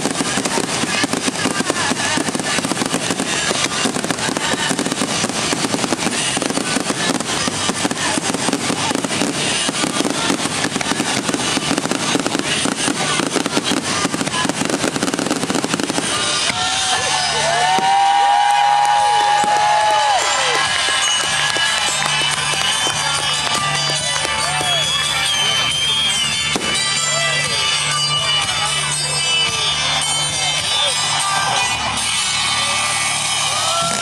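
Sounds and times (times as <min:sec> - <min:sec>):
fireworks crackling and banging: 0:00.0 - 0:34.0.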